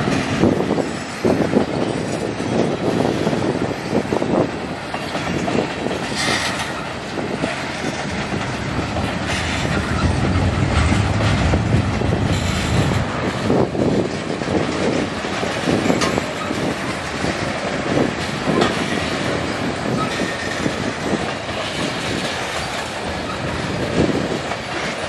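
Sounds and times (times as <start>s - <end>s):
clickety-clack over rail joints: 0.0s - 25.0s
steel wheels rumbling: 0.0s - 25.0s.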